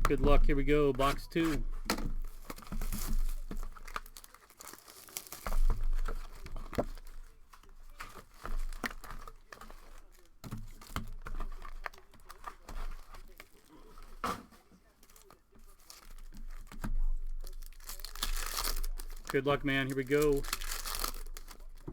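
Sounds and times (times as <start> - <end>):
plastic wrapping tearing and crinkling: 0.0 - 21.9.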